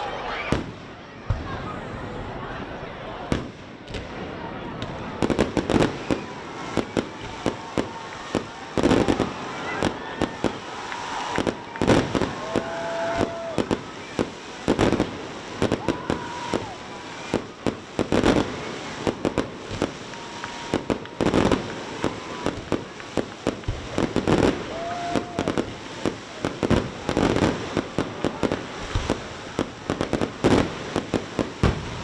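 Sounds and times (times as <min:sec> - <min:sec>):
fireworks bangs and pops: 0:00.3 - 0:02.0, 0:03.2 - 0:32.0.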